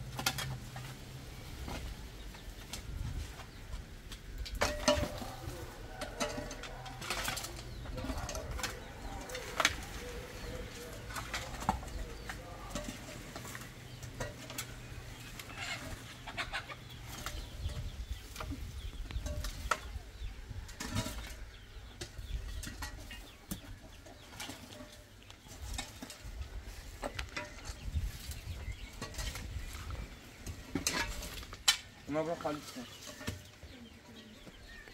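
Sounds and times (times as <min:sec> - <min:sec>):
clatters in metal wheelbarrow: 0:00.0 - 0:01.9, 0:04.2 - 0:33.7
twigs and leaves rustling: 0:00.0 - 0:34.9
shovels scraping hard dirt: 0:04.2 - 0:33.6.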